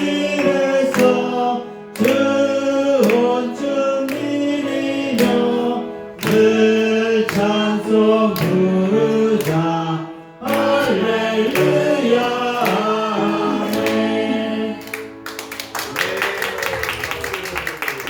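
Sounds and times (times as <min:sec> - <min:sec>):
group singing a hymn: 0:00.0 - 0:15.3
instrumental accompaniment: 0:00.0 - 0:16.2.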